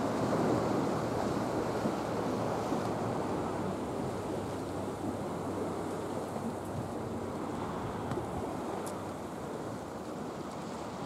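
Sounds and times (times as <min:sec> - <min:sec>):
sea: 0:00.0 - 0:11.0
wind: 0:00.0 - 0:11.0.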